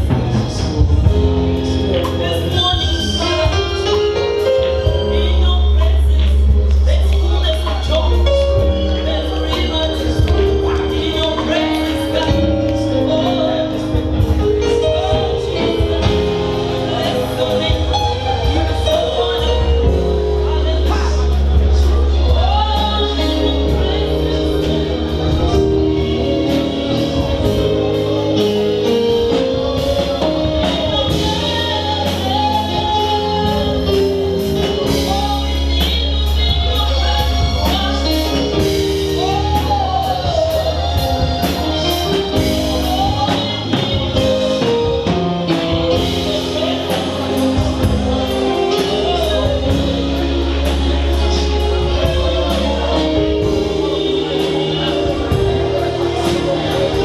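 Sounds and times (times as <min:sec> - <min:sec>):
gospel singing over a band: 0:00.0 - 0:57.0.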